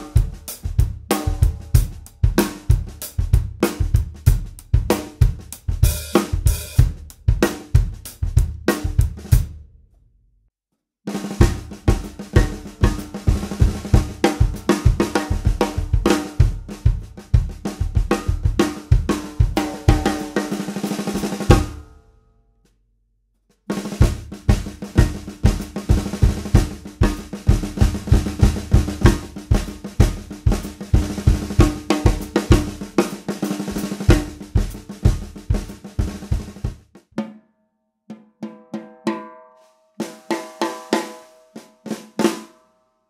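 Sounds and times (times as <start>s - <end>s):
snare drum groove: 0.0s - 9.6s, 11.1s - 21.8s, 23.6s - 37.4s, 40.0s - 42.5s.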